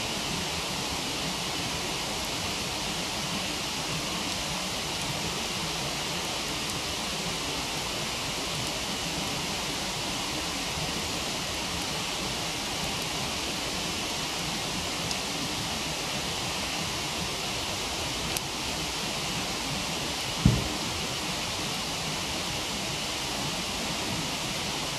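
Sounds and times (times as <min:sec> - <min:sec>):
faint campfire crackle: 0:00.0 - 0:24.9
waterfall rushing: 0:00.0 - 0:24.9.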